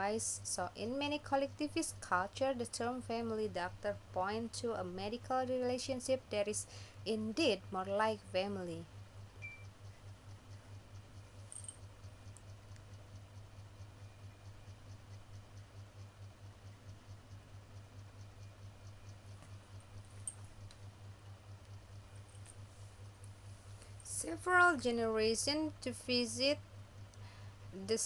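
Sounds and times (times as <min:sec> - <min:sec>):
faint regular ticking: 0:00.0 - 0:28.0
low pulsing hum: 0:00.0 - 0:28.0.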